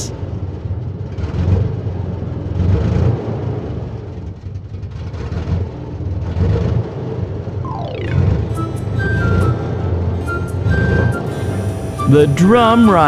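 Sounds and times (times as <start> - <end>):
truck engines rumbling: 0.0 - 13.0.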